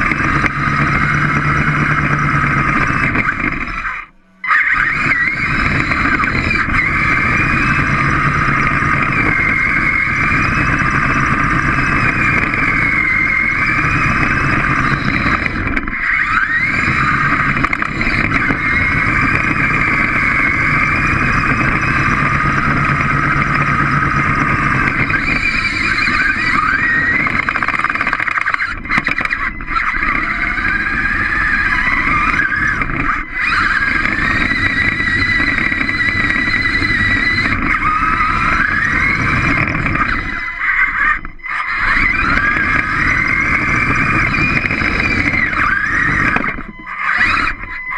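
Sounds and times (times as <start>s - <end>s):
robot motors whining: 0.0s - 47.9s.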